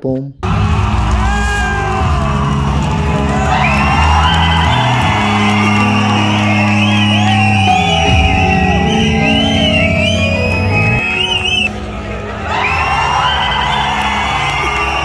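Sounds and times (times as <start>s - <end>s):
music with bass and high melody: 2.0s - 15.0s.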